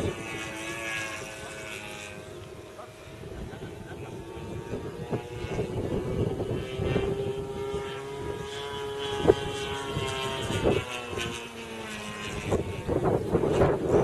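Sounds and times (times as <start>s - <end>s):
model airplane engine drone: 0.0s - 14.0s.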